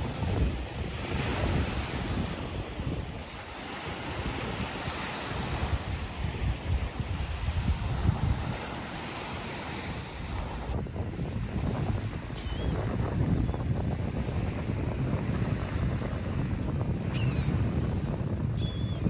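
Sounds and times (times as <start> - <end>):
ocean surf washing: 0.0 - 19.0
wind buffeting microphone: 0.0 - 19.0.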